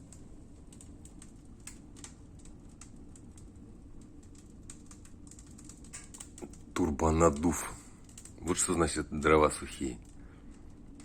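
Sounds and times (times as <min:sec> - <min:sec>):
burning wood crackling: 0:00.0 - 0:11.0
wood stove humming: 0:00.0 - 0:11.0.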